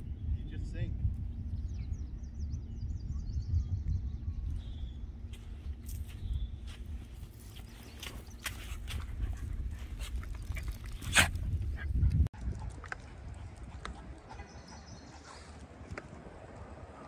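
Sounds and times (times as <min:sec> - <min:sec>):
low rumble: 0:00.0 - 0:13.8.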